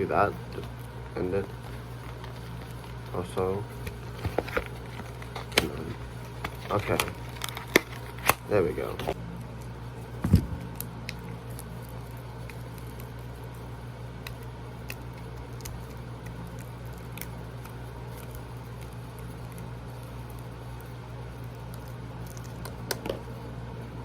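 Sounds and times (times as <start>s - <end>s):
electric fan humming: 0.0s - 24.0s
plastic packaging crinkling: 0.2s - 23.3s.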